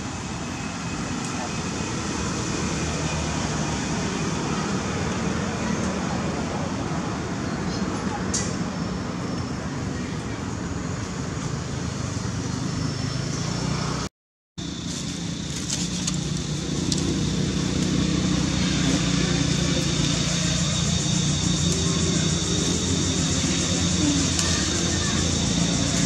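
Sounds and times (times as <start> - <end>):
motor traffic hum: 0.0 - 26.0.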